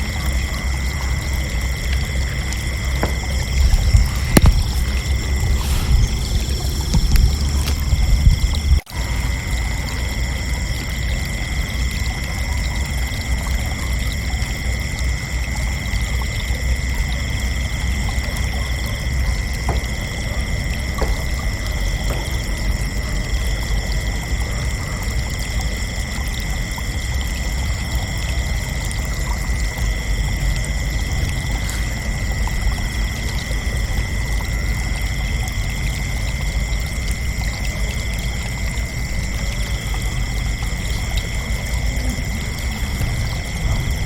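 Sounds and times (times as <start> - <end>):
crickets trilling: 0.0 - 44.0.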